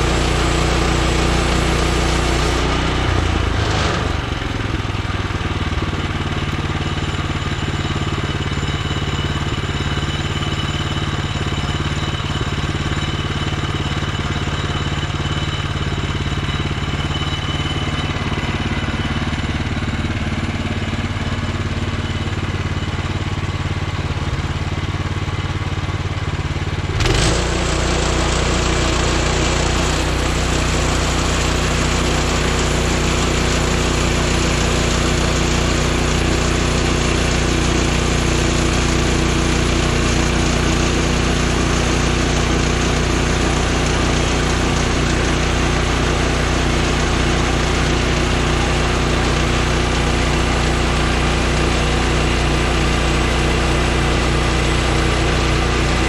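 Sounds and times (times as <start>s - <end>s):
sawmill gas engine running: 0.0s - 56.0s.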